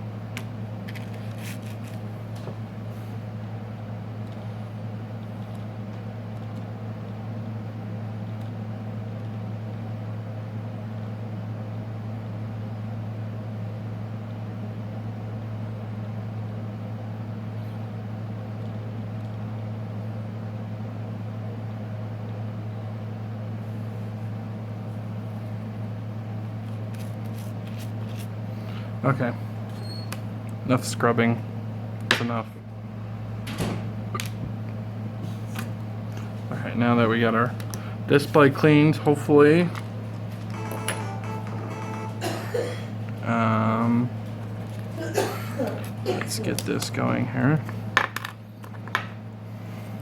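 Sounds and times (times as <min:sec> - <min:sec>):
ultrasonic cleaner humming: 0:00.0 - 0:50.0.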